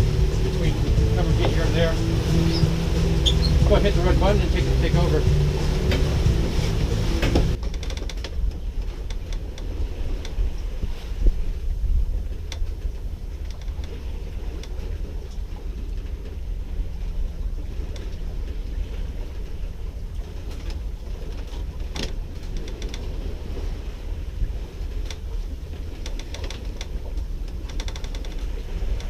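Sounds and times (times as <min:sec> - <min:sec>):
wind on microphone: 0:00.0 - 0:07.6, 0:08.2 - 0:29.0
sailboat low rumble: 0:00.0 - 0:29.0.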